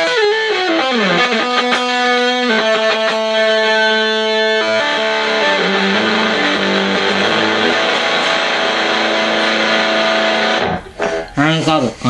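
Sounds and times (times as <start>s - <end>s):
fuzz electric guitar: 0.0s - 11.3s.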